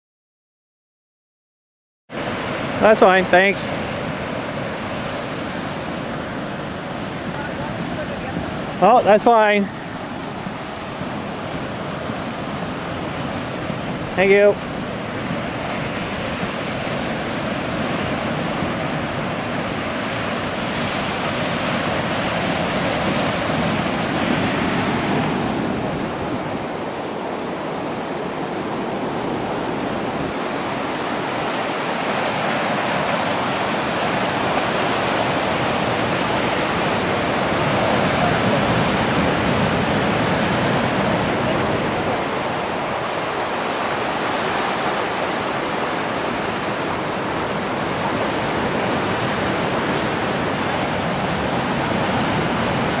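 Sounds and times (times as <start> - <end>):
ocean waves washing against rocks: 2.1 - 53.0.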